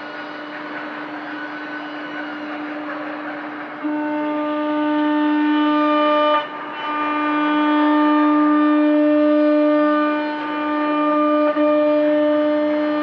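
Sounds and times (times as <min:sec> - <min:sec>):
router spindle whine: 0:00.0 - 0:13.0.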